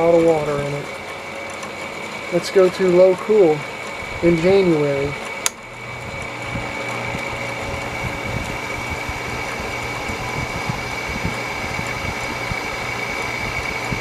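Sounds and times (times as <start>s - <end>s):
air conditioner humming: 0.0s - 14.0s
fan motor noise: 0.0s - 14.0s
high-pitched whine: 0.0s - 14.0s.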